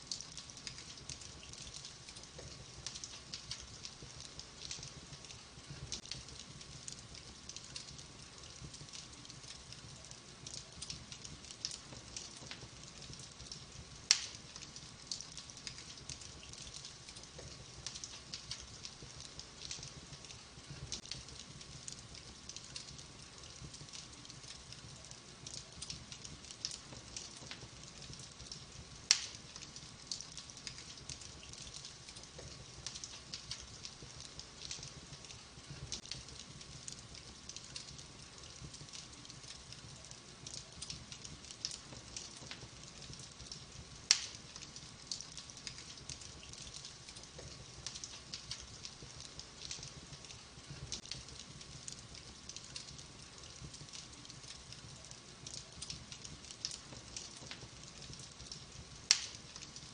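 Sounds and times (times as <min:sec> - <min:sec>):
wood fire crackling: 0:00.0 - 0:59.9
sharp pops from fire: 0:00.1 - 0:59.9.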